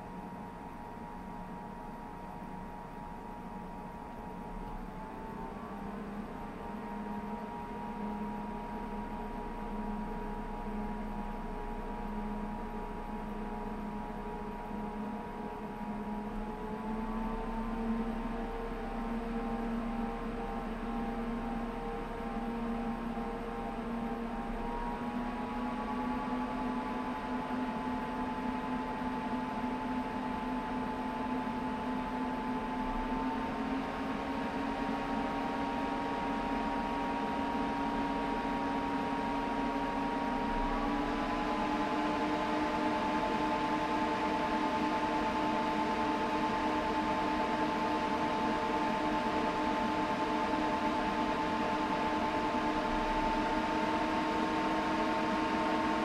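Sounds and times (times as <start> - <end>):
computer fans whirring: 0.0 - 56.0.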